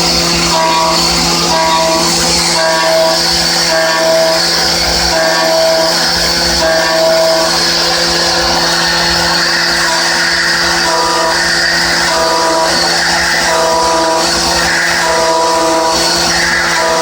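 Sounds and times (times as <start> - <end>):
higher cutter tone: 0.0 - 17.0
milling machine whine: 0.0 - 17.0.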